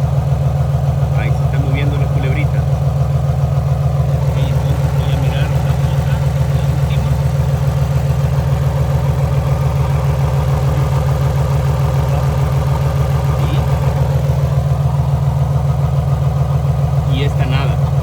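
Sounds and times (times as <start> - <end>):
car engine idling with misfire: 0.0 - 18.0.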